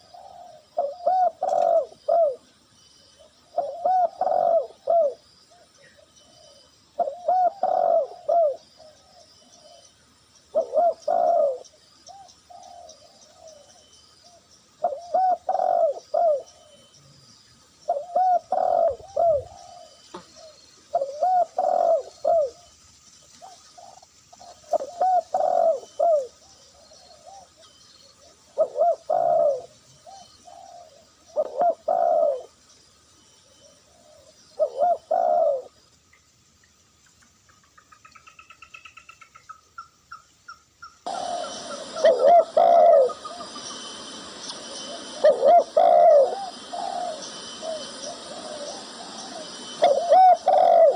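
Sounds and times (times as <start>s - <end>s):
dove cooing: 0.0s - 2.5s, 3.2s - 9.8s, 10.5s - 16.9s, 17.9s - 22.7s, 23.4s - 32.6s, 33.4s - 35.8s, 41.1s - 50.9s
high bird trill: 0.0s - 17.1s, 17.8s - 22.8s, 23.4s - 35.7s, 37.7s - 50.9s.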